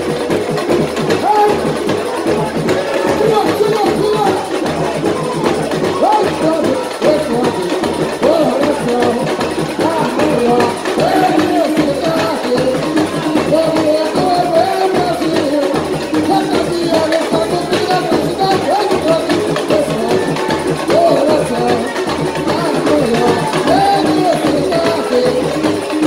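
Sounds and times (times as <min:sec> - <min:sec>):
samba drums: 0:00.0 - 0:26.0
man singing: 0:01.1 - 0:26.0.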